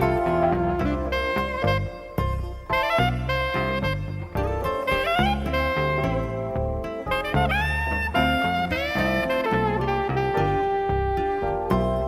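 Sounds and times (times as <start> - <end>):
guitar and keyboard chords: 0.0 - 12.0
jazz saxophone melody: 0.0 - 12.0.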